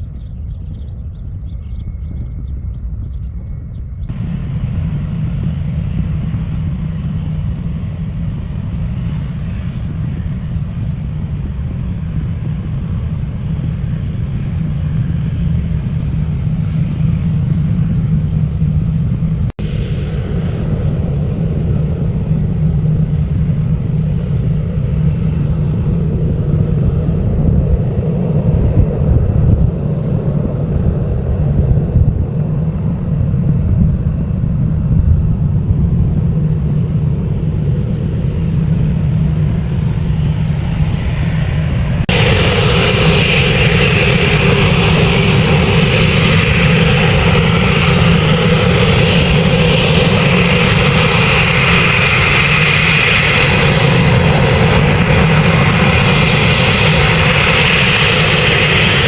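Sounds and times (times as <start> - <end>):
bright jet engine whine: 0.0 - 59.0
jet engines rumbling: 0.0 - 59.0.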